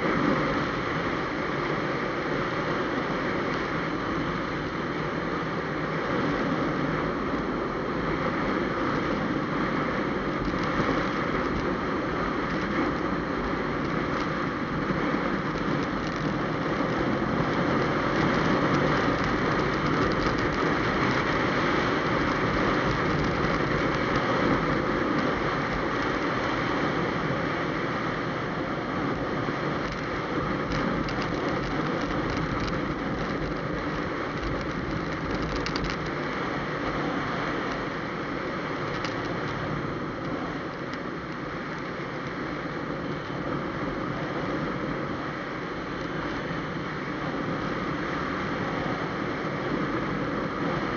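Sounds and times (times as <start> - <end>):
motorcycle wind and road noise: 0.0 - 50.9.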